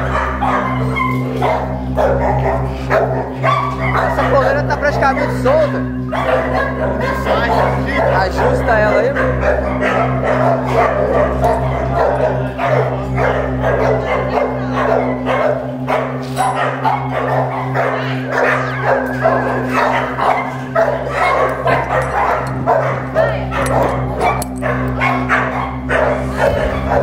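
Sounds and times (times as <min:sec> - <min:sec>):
background music with low drone: 0:00.0 - 0:27.0
dog barking: 0:00.0 - 0:27.0.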